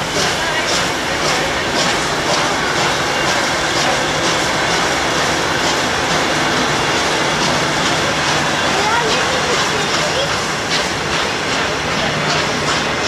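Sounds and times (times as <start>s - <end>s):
wheels clicking over rail joints: 0.0s - 13.0s
wheels rumbling on rails: 0.0s - 13.0s.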